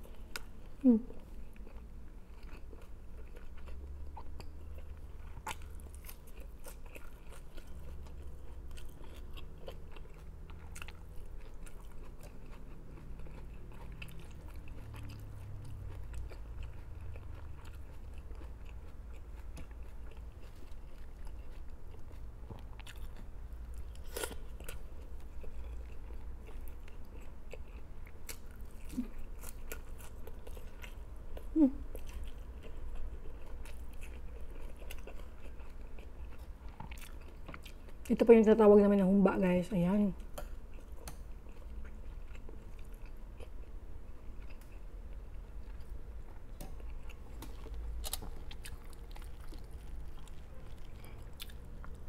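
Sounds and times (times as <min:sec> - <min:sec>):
chewing with light crunch: 0:00.0 - 0:38.5, 0:40.2 - 0:52.0.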